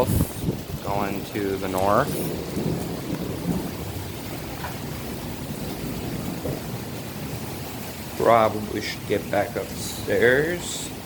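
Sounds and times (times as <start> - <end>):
low thunder rumble: 0.0 - 11.0
steady rain hissing: 0.0 - 11.0.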